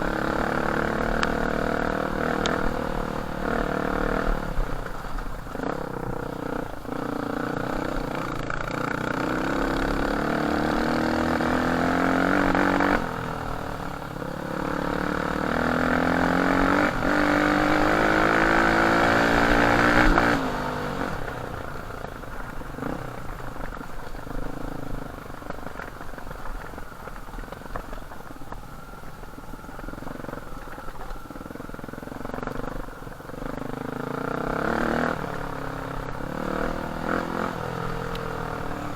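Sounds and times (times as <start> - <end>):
dirt bike engine revving: 0.0 - 26.0, 30.0 - 38.9.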